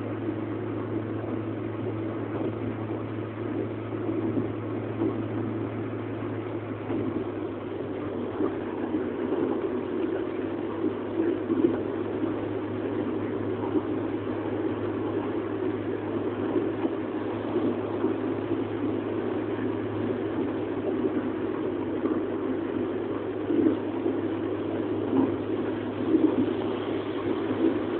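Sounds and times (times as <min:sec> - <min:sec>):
low hum: 0:00.0 - 0:27.9
vehicle engine and road noise: 0:00.0 - 0:27.9.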